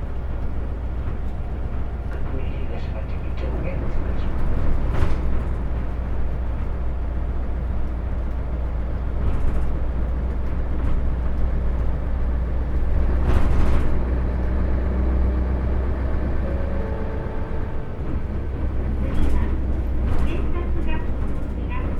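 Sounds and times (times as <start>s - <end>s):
bus engine drone: 0.0s - 21.9s
road noise: 0.0s - 21.9s.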